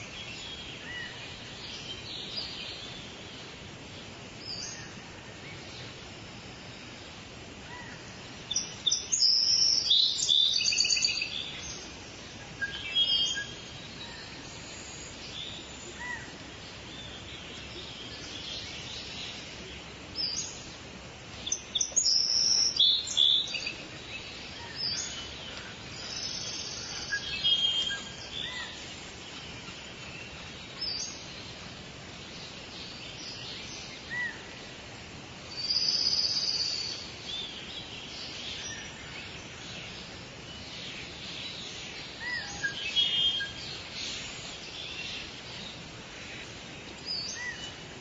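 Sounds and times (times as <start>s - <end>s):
small birds chirping: 0.0s - 48.0s
steady background hiss: 0.0s - 48.0s.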